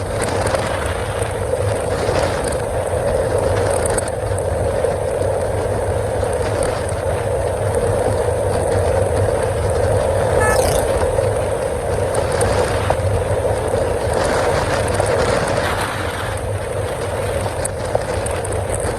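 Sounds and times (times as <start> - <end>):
motorcycle engine running steadily: 0.0 - 15.7.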